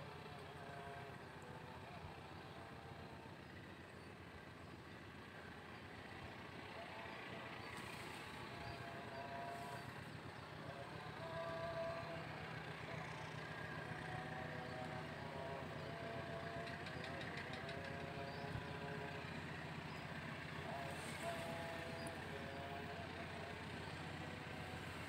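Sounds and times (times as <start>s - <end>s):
distant diesel locomotive drone: 0.0s - 25.0s.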